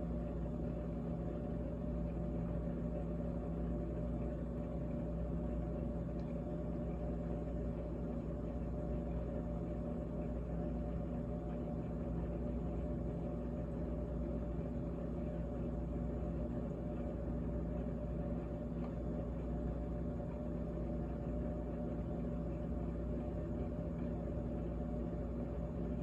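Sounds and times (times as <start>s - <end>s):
refrigerator humming: 0.0s - 26.0s.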